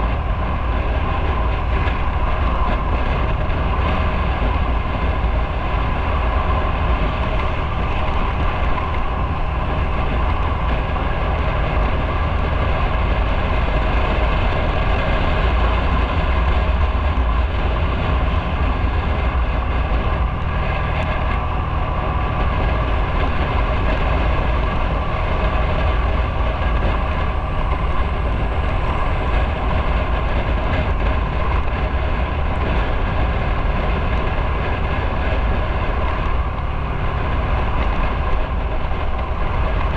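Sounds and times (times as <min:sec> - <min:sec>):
motorcycle engine drone: 0:00.0 - 0:39.9
road and wind noise: 0:00.0 - 0:39.9.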